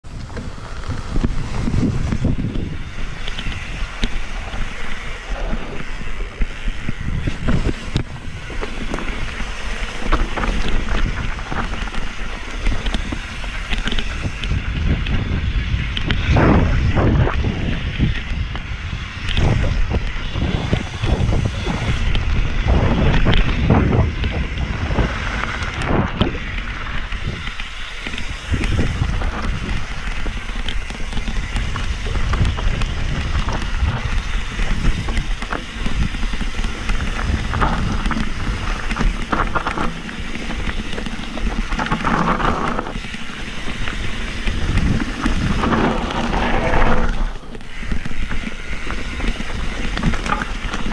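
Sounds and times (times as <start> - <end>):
bike knocks and rattles: 0.0 - 50.9
tyres rumbling over dirt: 0.0 - 50.9
wind buffeting microphone: 0.0 - 50.9.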